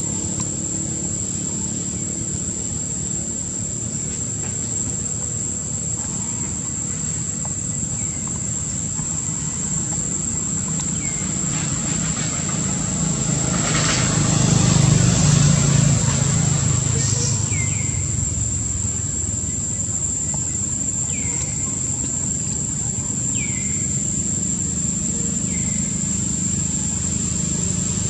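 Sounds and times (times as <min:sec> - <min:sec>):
faint chirps: 0:00.0 - 0:13.3, 0:15.9 - 0:28.0
distant engine rumble: 0:00.0 - 0:28.0.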